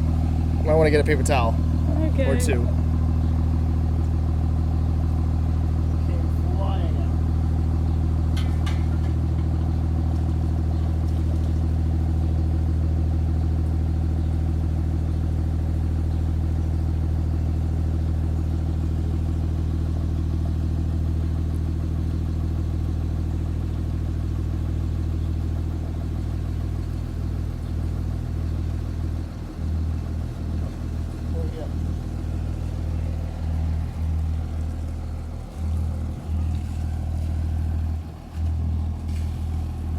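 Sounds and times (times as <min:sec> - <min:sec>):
diesel engine idling: 0:00.0 - 0:39.9
water washing out muffler: 0:00.0 - 0:39.9.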